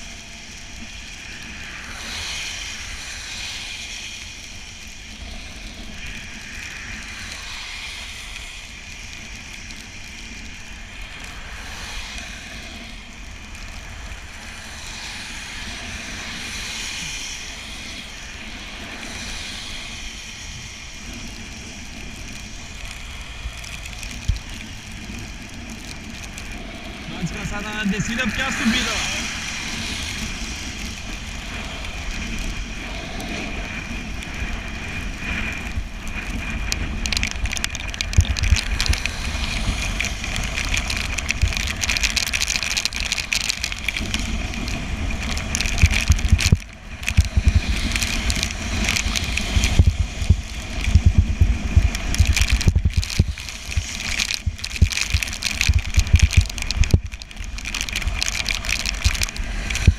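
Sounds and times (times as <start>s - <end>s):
tyres hissing on wet road: 0.0s - 59.9s
wind gusting over microphone: 0.0s - 59.9s.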